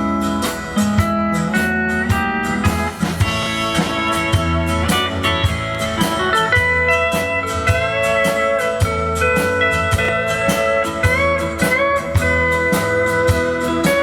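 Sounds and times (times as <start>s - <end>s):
bass: 0.0s - 14.0s
lead guitar sliding notes: 0.0s - 14.0s
steady drum beat: 0.0s - 14.0s.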